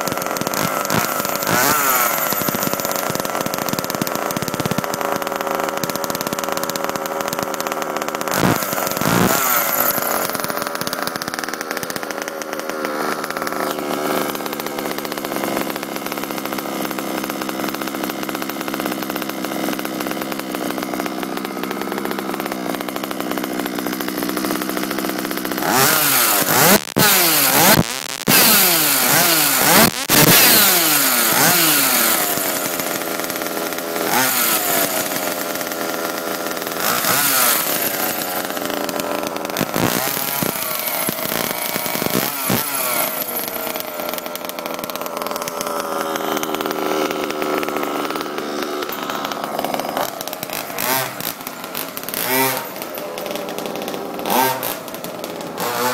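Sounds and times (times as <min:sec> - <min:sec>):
two-stroke engine revving: 0:00.0 - 0:55.9.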